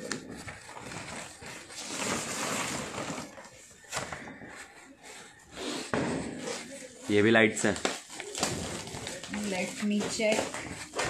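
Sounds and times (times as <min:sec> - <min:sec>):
packaging rustling and crinkling: 0:00.0 - 0:05.6, 0:06.2 - 0:11.0.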